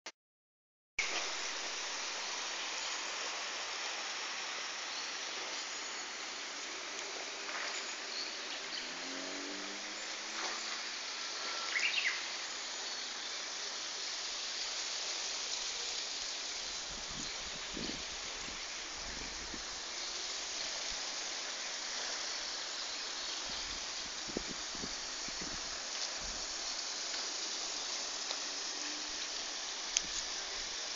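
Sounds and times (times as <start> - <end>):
outdoor park hiss: 1.0 - 30.9.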